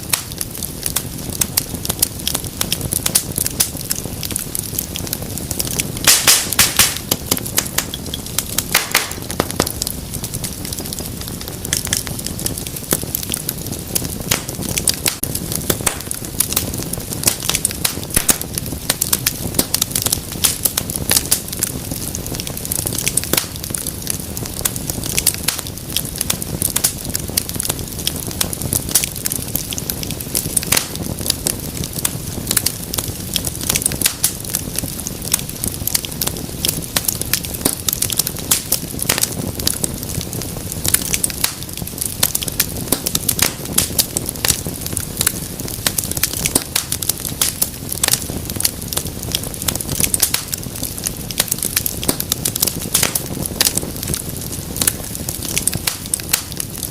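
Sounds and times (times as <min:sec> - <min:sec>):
low rumble of flame: 0:00.0 - 0:56.9
wood fire crackling: 0:00.0 - 0:56.9
sharp pops and snaps: 0:00.1 - 0:56.9.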